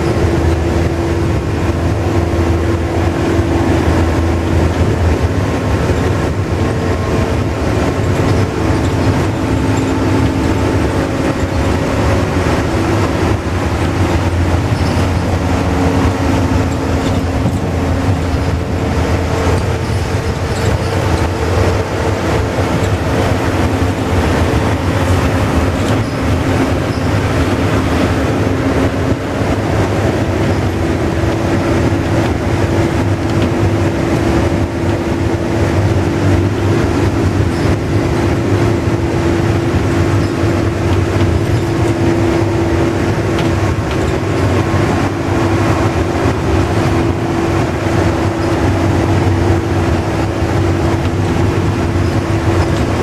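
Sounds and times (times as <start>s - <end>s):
bus engine drone: 0.0s - 53.0s
drivetrain whine: 0.0s - 53.0s
road noise: 0.0s - 53.0s.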